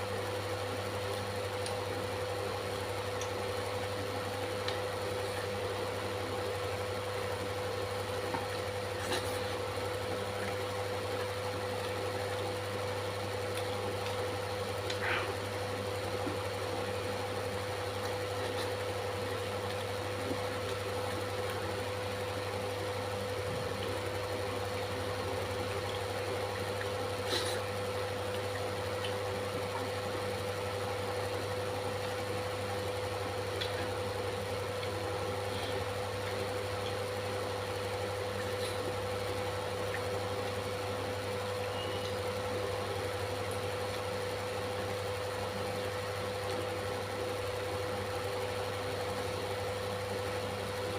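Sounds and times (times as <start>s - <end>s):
steady pitched hum: 0.0s - 50.9s.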